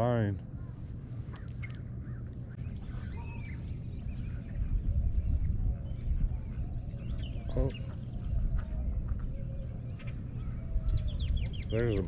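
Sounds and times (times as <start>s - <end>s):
steady low rumble: 0.0s - 12.0s
small birds chirping: 0.1s - 12.0s.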